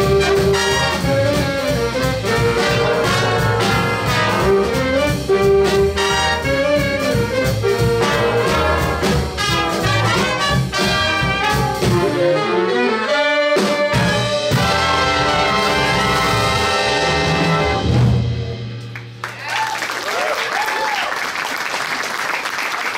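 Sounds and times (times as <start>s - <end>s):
jazz big band playing: 0.0s - 19.3s.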